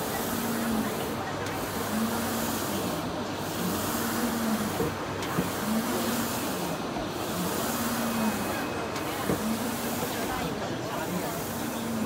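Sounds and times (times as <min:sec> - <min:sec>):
printer motor whine: 0:00.0 - 0:12.0.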